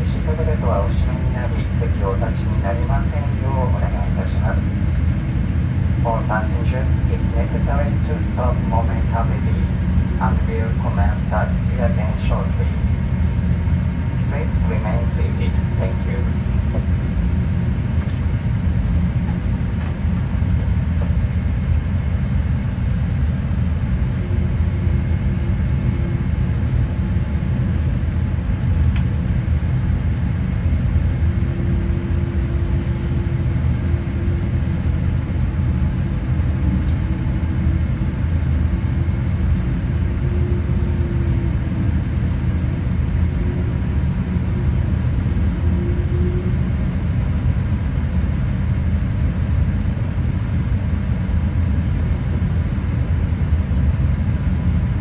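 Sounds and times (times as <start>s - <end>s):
aircraft cabin rumble: 0.0s - 55.0s
faint steady hum: 0.0s - 55.0s.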